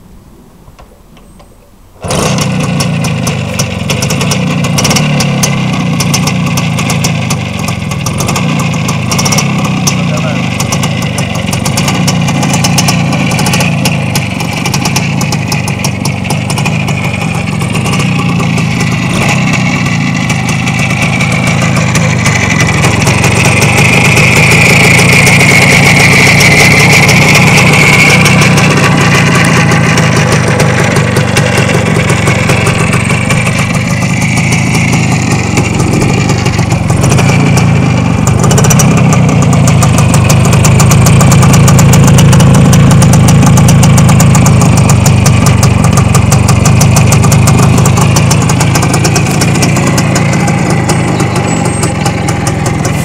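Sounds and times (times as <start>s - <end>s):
motorcycle engine idling: 0.9s - 53.0s.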